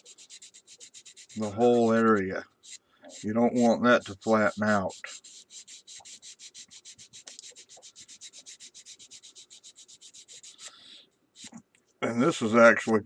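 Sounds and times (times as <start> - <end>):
sanding stick rubbing plastic: 0.0 - 10.7, 11.4 - 11.6.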